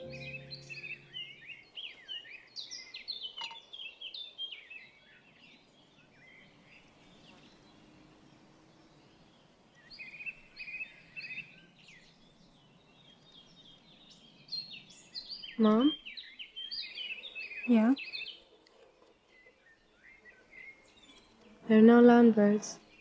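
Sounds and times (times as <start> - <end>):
faint outdoor background noise: 0.0 - 23.0
songbirds chirping: 0.0 - 23.0.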